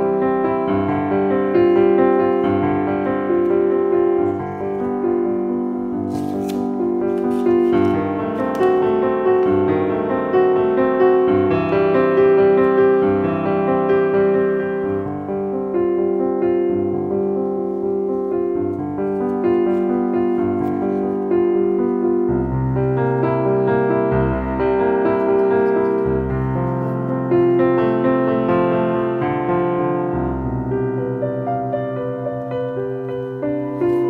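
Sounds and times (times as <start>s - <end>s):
piano background music: 0.0s - 34.0s.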